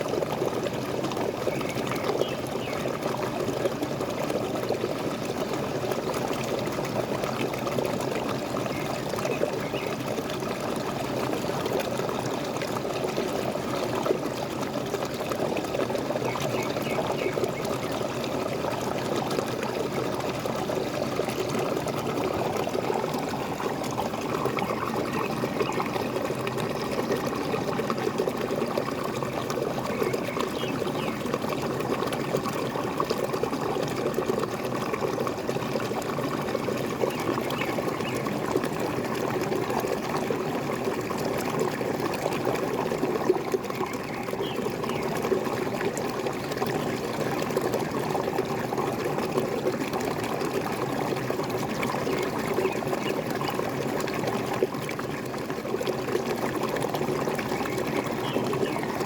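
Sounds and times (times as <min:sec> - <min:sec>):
waterfall splashing and gurgling: 0:00.0 - 0:59.0.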